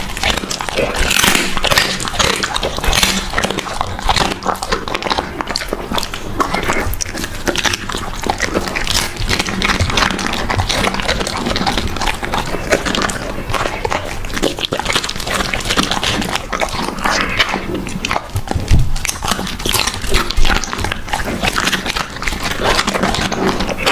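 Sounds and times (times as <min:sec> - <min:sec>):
dog chewing food: 0:00.0 - 0:23.9.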